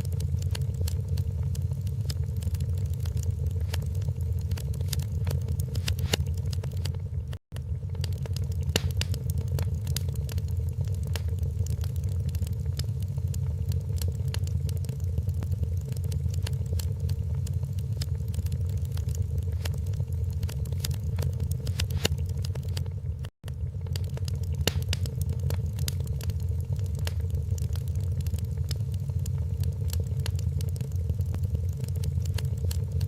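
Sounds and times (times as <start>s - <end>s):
fire popping and snapping: 0.0s - 33.0s
steady low rumble: 0.0s - 33.0s
wood fire crackling: 0.0s - 33.0s.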